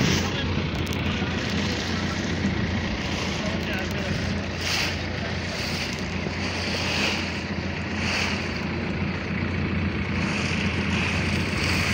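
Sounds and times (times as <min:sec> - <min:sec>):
boat engine running: 0:00.0 - 0:11.9
water rushing and splashing: 0:00.0 - 0:11.9.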